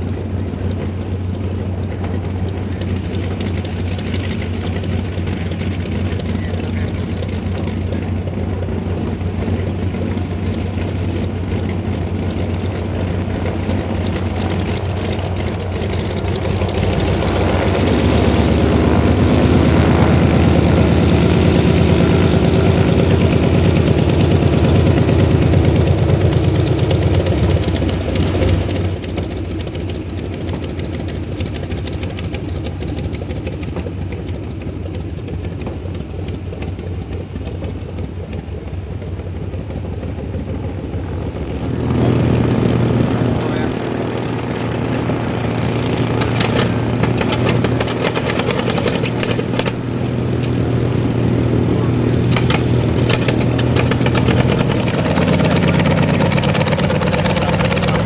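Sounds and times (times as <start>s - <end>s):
propeller plane engine running: 0.0s - 58.0s.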